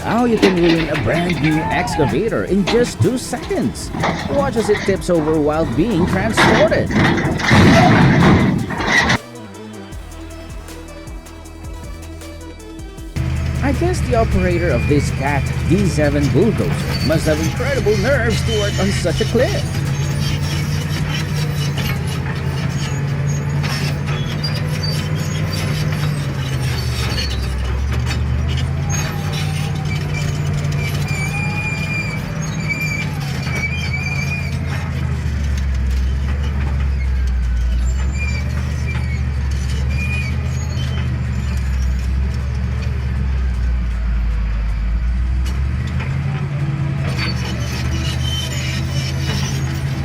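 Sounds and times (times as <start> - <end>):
metal clanks: 0.0 - 9.5, 13.2 - 50.0
bulldozer diesel engine running: 0.0 - 50.0
high squealing: 0.0 - 50.0.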